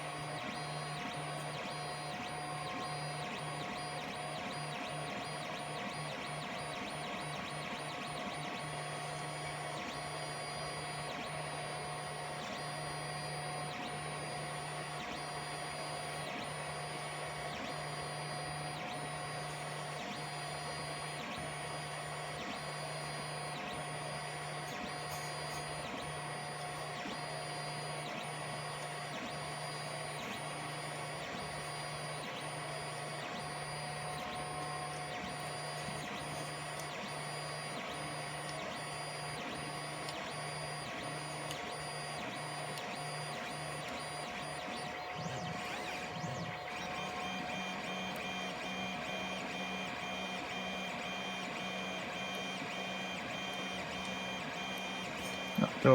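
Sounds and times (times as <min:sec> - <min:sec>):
stepper motors whining: 0:00.1 - 0:55.9.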